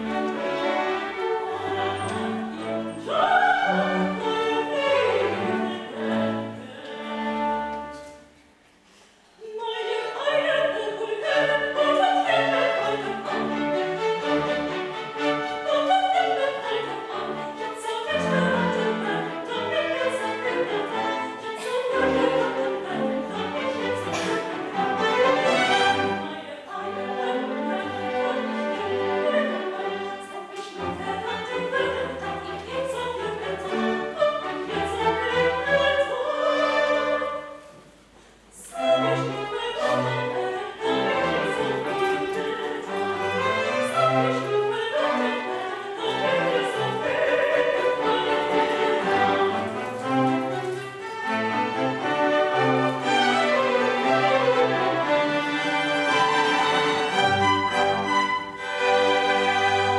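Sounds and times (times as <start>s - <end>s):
soprano singing: 0.0s - 8.4s, 9.4s - 37.8s, 38.5s - 59.9s
string orchestra: 0.0s - 59.9s.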